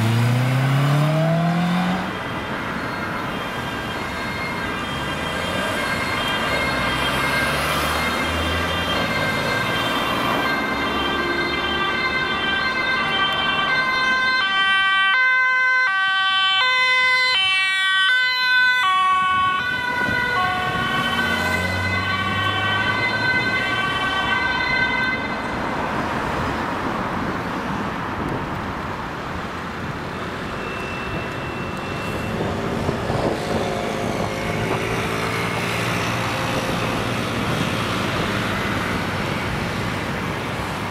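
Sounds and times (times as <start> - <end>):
road traffic noise: 0.0 - 40.9
ambulance two-tone siren: 0.4 - 26.6, 30.1 - 40.9.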